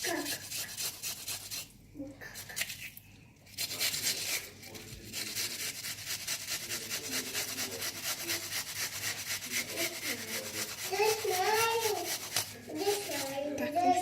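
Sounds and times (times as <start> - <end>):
onion scraping on hand grater: 0.0 - 1.7, 3.5 - 13.6.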